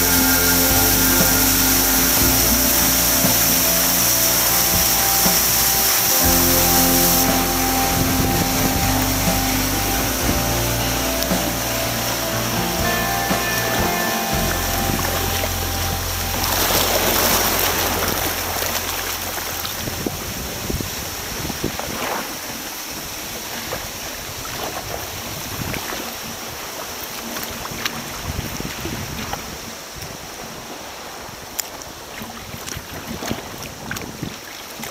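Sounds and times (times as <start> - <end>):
wind buffeting microphone: 0.0 - 34.5
sea water splashing on rocks: 0.0 - 34.9.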